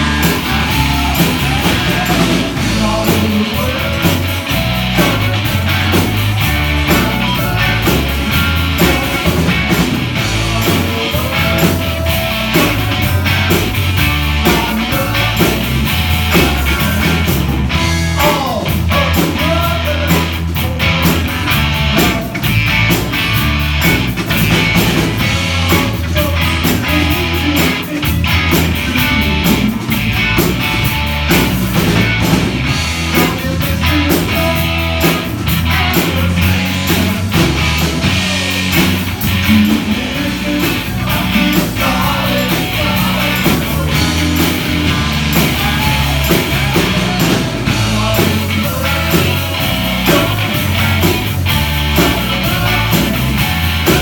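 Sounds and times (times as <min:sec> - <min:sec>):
bass guitar: 0:00.0 - 0:54.0
drum beat: 0:00.0 - 0:54.0
electric guitar: 0:00.0 - 0:54.0.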